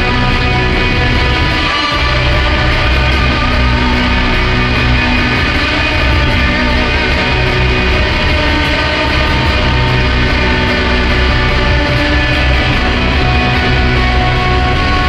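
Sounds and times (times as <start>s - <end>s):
guitar drone music: 0.0s - 15.0s.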